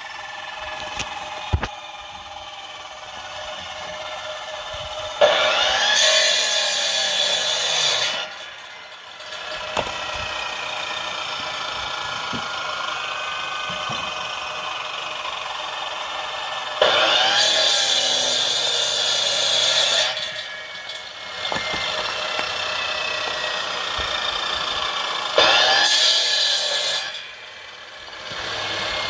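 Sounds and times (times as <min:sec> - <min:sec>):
chainsaw cutting log: 0:00.0 - 0:29.0
chainsaw running: 0:00.0 - 0:29.0.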